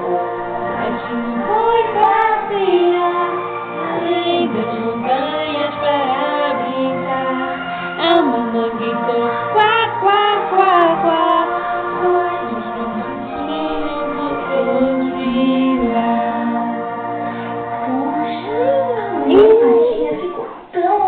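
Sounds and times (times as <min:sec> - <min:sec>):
woman singing: 0:00.0 - 0:16.9, 0:17.8 - 0:21.0.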